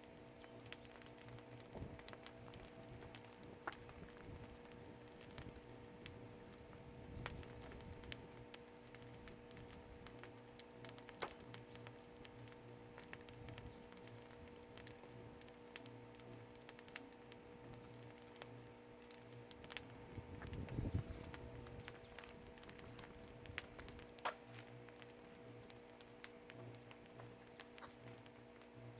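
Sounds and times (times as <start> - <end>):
faint steady hum: 0.0 - 28.9
firewood crackling: 0.0 - 28.9.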